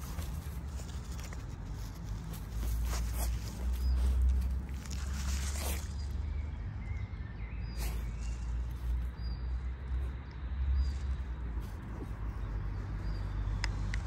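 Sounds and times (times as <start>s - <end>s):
dog snuffling and digging: 0.0s - 6.4s, 7.5s - 13.7s.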